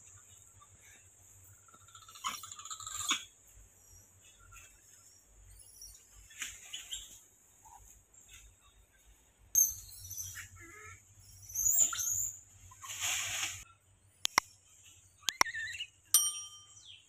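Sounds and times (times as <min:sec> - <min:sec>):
birds chirping: 0:00.0 - 0:12.9, 0:13.7 - 0:17.0.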